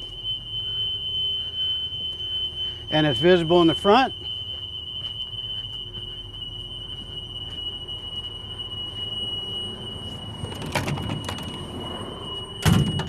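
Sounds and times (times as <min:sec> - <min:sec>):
high-pitched alarm buzzer: 0:00.0 - 0:13.0.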